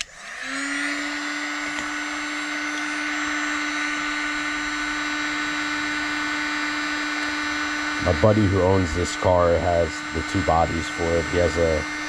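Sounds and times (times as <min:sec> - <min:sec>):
hot-air blower whirring: 0:00.0 - 0:12.0.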